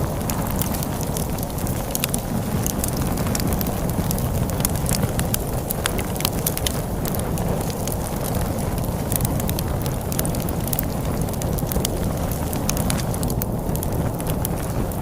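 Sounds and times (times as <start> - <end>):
log fire crackling and popping: 0.0 - 15.0
low rumble of storm wind: 0.0 - 15.0.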